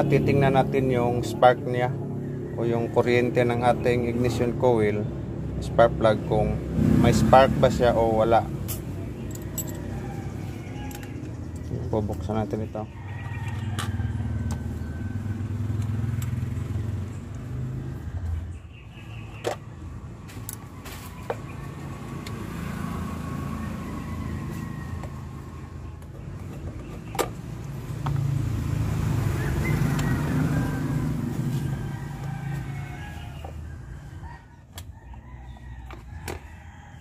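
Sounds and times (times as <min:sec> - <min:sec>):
vehicles rumbling past: 0:00.0 - 0:37.0.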